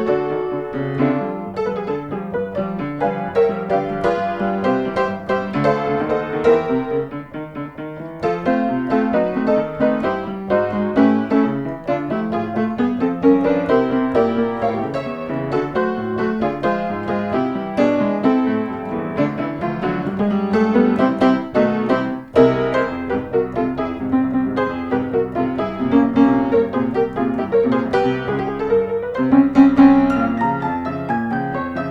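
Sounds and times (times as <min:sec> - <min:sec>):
lively piano music: 0:00.0 - 0:31.9.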